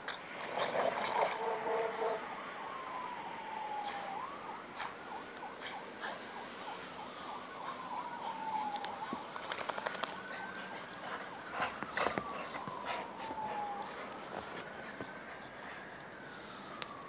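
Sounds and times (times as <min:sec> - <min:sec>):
emergency siren wailing: 0:00.2 - 0:17.0.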